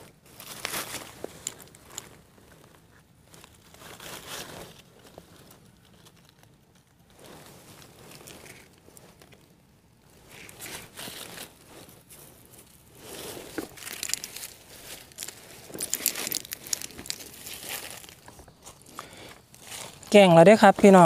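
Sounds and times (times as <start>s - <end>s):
dry leaves rustling: 0.2s - 2.7s, 3.3s - 9.3s, 10.1s - 21.0s.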